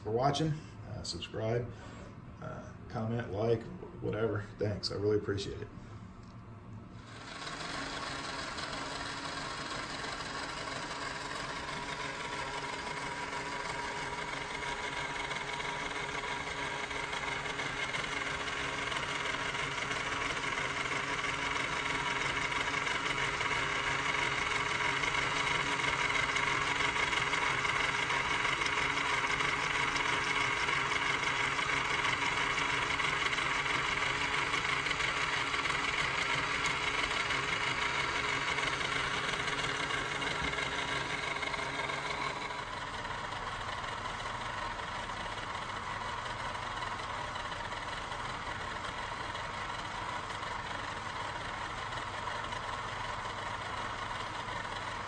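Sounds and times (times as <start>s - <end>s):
model engine knocking rhythmically: 7.3s - 55.0s.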